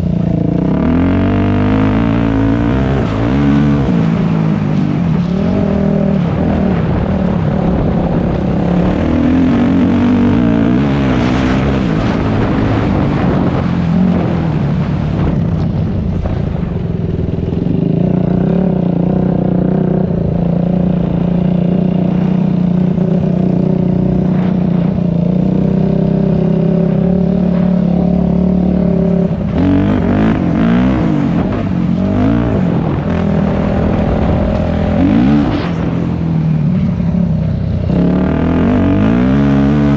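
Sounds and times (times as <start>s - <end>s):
dirt bike engine revving: 0.0s - 15.4s, 17.1s - 39.9s.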